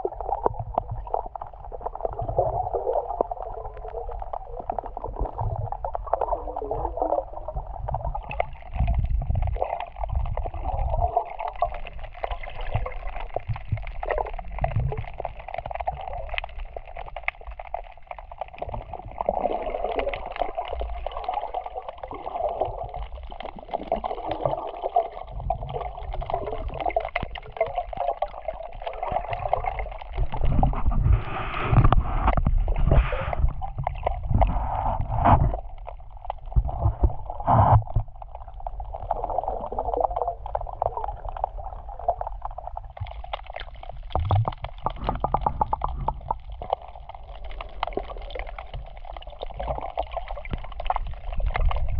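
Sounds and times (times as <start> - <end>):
muffled underwater sea gurgling: 0.0 - 51.9.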